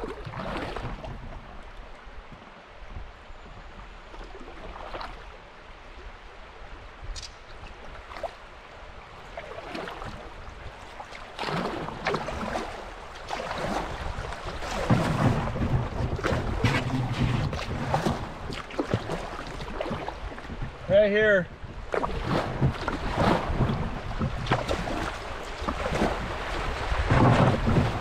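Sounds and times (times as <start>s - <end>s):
water splashing around kayak: 0.0s - 28.0s.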